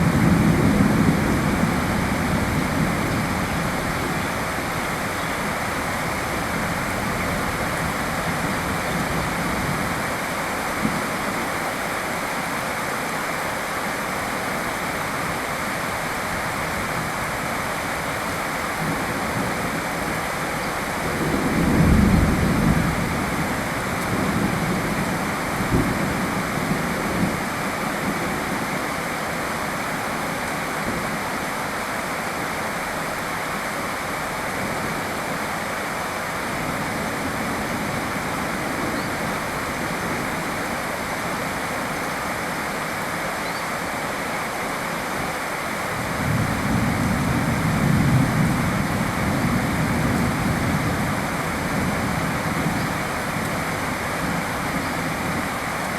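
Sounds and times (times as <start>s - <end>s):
steady rain hiss: 0.0s - 55.9s.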